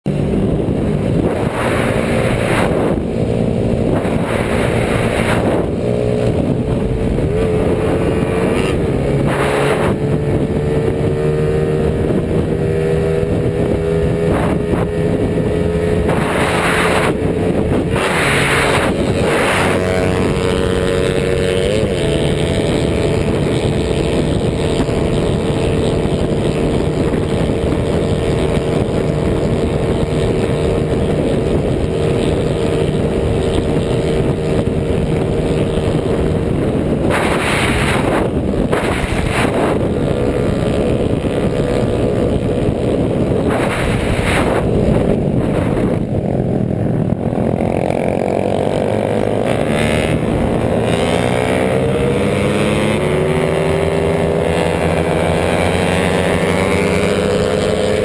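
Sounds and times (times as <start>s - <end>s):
motorcycle engine accelerating: 0.0s - 58.0s
wind buffeting microphone: 0.0s - 58.0s
wind rush: 0.0s - 58.0s.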